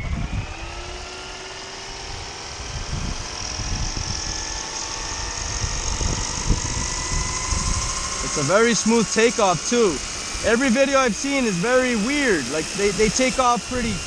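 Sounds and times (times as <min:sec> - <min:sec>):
wind buffeting microphone: 0:00.0 - 0:01.1, 0:02.0 - 0:14.0
rc helicopter motor whine: 0:00.0 - 0:14.0.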